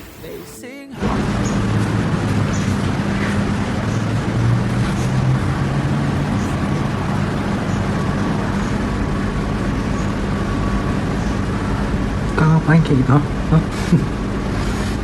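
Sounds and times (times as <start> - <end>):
low mechanical hum and rumble: 1.0 - 15.0.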